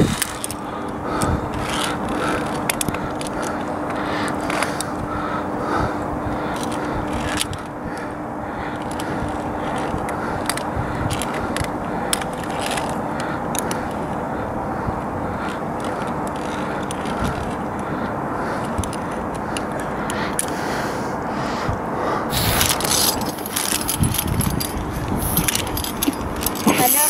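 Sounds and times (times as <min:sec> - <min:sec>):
climbing gear clicking on steel: 0:00.0 - 0:05.0, 0:06.4 - 0:20.6, 0:22.3 - 0:27.0
steady rushing noise: 0:00.0 - 0:26.8.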